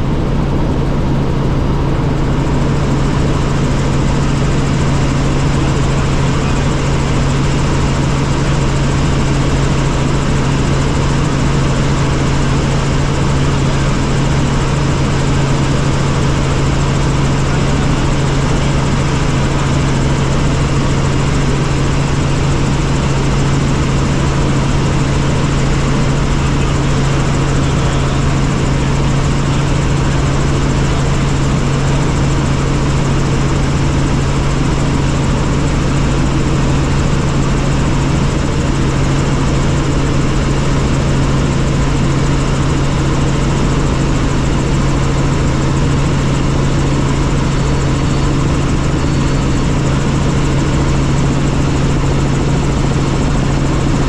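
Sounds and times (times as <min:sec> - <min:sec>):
helicopter drone: 0:00.0 - 0:54.0.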